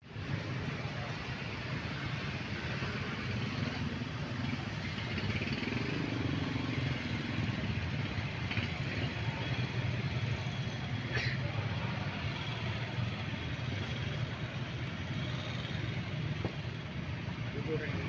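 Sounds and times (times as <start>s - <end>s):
motorcycle and car engines passing: 2.0s - 18.0s.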